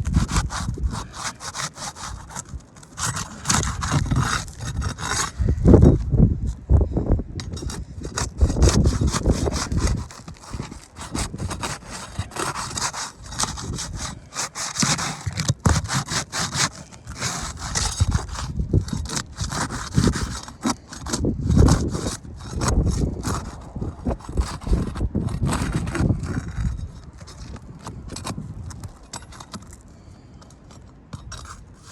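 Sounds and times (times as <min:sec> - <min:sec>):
roof shingle scraping and crackling: 0:00.0 - 0:06.6, 0:07.4 - 0:31.9.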